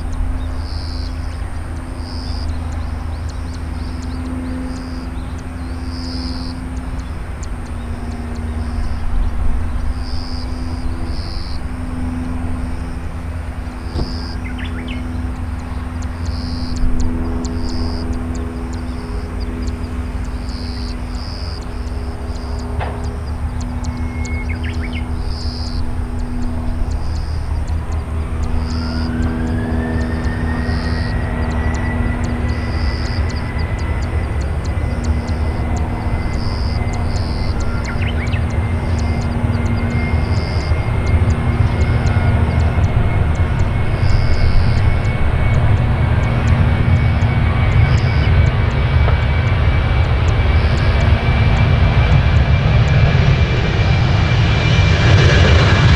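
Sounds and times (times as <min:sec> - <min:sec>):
jet engine whine rising: 0:00.0 - 0:55.9
jet engines humming: 0:00.0 - 0:55.9.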